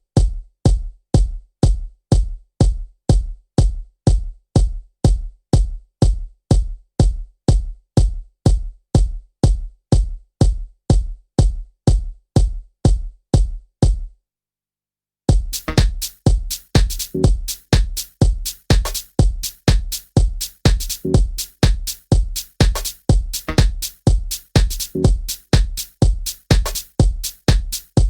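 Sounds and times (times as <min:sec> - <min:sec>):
drum machine kick drum: 0:00.0 - 0:14.2, 0:15.3 - 0:28.0.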